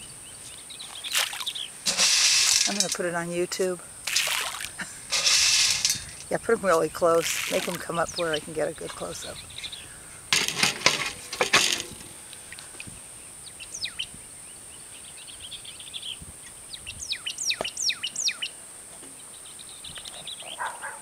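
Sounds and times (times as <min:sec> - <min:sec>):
songbirds chirping: 0:00.0 - 0:04.0, 0:04.8 - 0:21.0.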